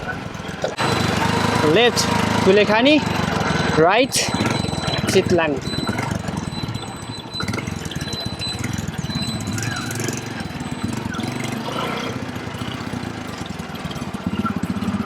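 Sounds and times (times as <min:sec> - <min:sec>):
motorcycle engine running: 0:00.1 - 0:15.0.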